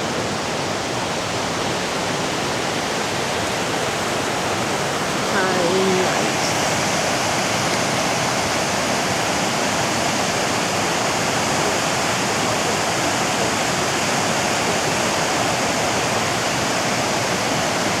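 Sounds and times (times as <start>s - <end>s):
waterfall pouring and splashing: 0.0s - 18.0s.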